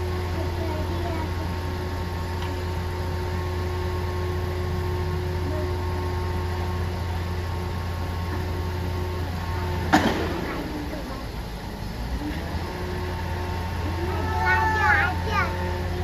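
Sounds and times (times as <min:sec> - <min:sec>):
hydraulic crane whine: 0:00.0 - 0:16.0
truck engine running: 0:00.0 - 0:16.0.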